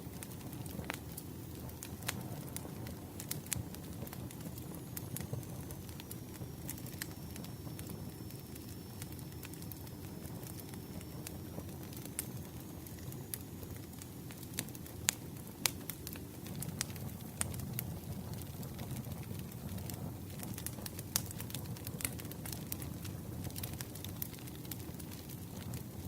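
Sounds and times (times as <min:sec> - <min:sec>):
campfire crackling: 0:00.0 - 0:26.0
fire popping and snapping: 0:00.0 - 0:26.0.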